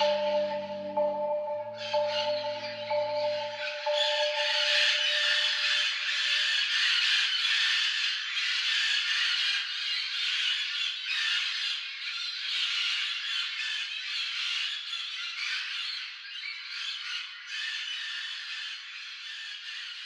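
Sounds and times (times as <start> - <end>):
chorus of bird calls: 0.0 - 20.0.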